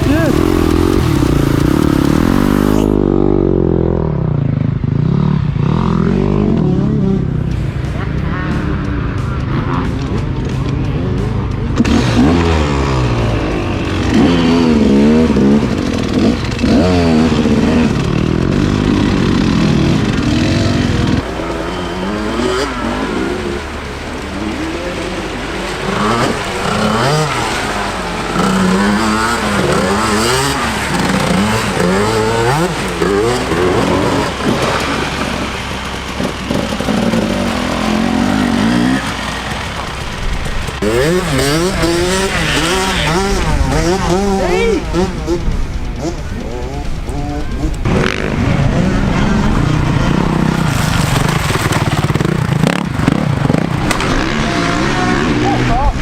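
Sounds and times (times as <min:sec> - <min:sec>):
off-road engines revving: 0:00.0 - 0:56.0.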